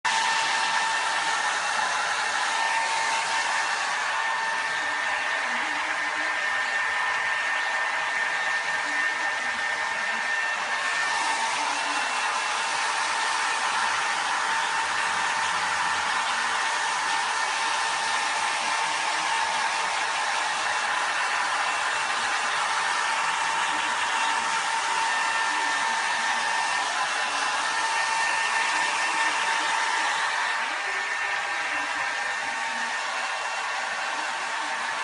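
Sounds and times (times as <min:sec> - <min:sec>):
hair dryer blowing: 0:00.0 - 0:35.0.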